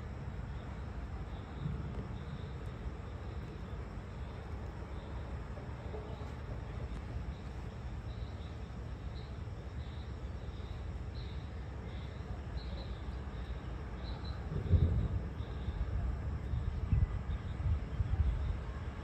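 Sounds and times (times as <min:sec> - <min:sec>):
insects chirping: 0:00.0 - 0:19.0
steady low rumble: 0:00.0 - 0:19.0.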